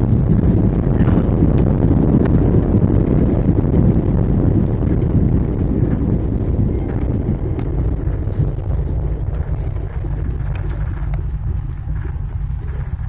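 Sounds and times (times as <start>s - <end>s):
airliner engine and airflow rumble: 0.0s - 13.0s
faint clicks and rattles: 0.0s - 13.0s.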